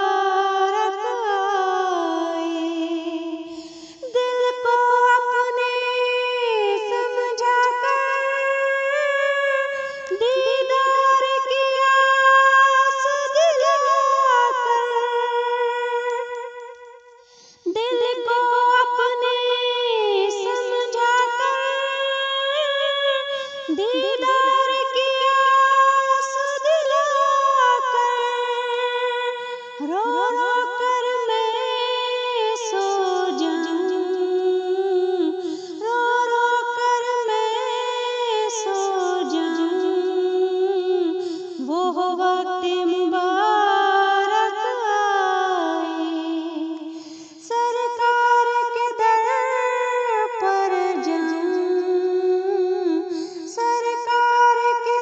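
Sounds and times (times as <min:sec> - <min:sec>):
woman singing unaccompanied: 0:00.0 - 0:16.8, 0:17.4 - 0:55.0.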